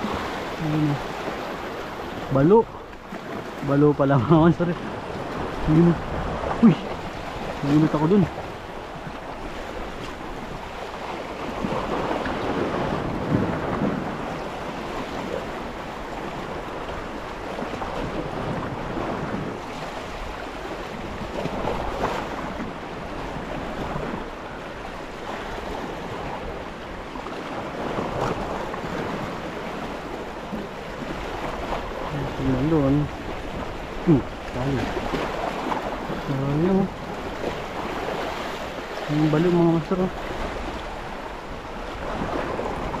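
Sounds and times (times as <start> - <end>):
sea waves washing ashore: 0.0 - 43.0
wind on microphone: 0.0 - 43.0.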